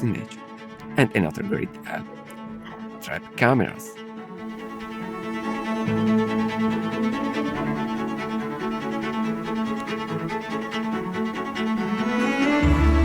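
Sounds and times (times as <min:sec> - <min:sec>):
bowed strings holding notes: 0:00.0 - 0:13.0.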